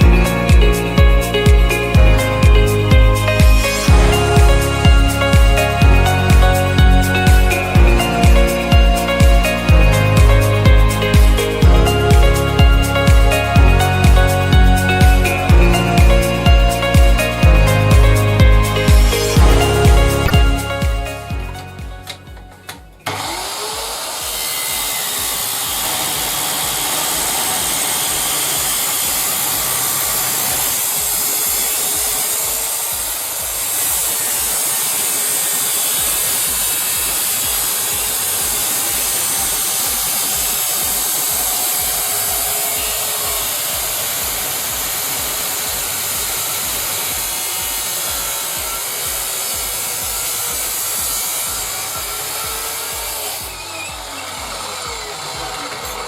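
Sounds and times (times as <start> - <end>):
background music with low beat: 0.0 - 56.0
electric saw motor cutting: 0.0 - 56.0.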